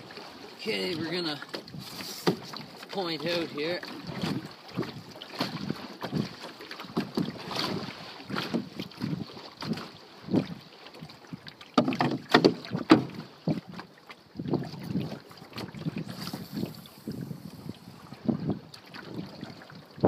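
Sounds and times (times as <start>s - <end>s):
paddle strokes splashing: 0.0s - 20.0s.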